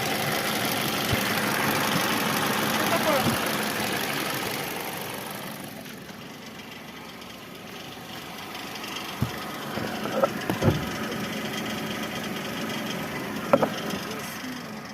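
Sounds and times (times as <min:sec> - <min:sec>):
car engine idling with knock: 0:00.0 - 0:14.9.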